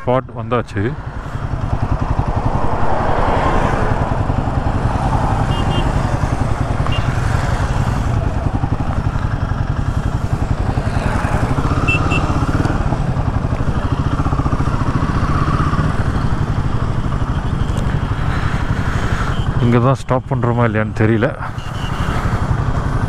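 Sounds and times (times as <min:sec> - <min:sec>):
motorcycle engine running: 0:01.0 - 0:19.6, 0:21.5 - 0:23.0.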